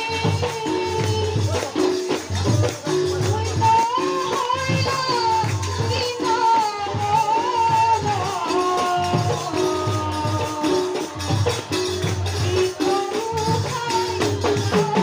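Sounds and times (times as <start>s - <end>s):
drum beat: 0.0s - 15.0s
jingling percussion: 0.0s - 15.0s
woman singing: 0.0s - 15.0s.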